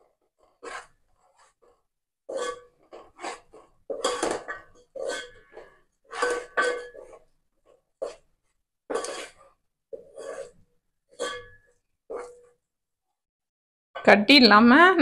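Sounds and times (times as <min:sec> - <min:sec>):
wooden spoon scraping metal pot: 0:00.0 - 0:12.8.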